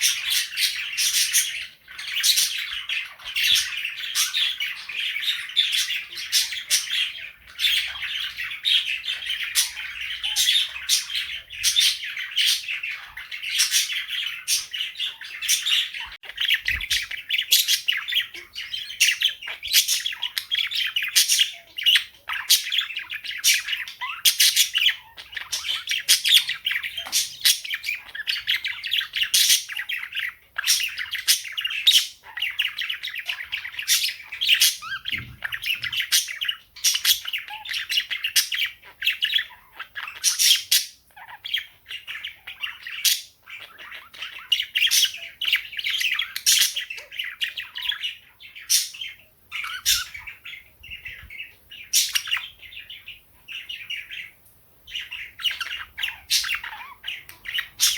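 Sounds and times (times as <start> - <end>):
shrill bird squawks: 0.0 - 50.7, 51.8 - 54.3, 54.9 - 57.9
birds chirping and chattering: 0.0 - 57.9.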